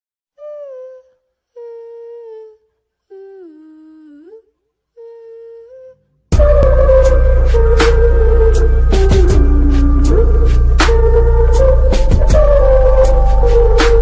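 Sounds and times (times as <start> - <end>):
person humming held notes: 0.4 - 14.0.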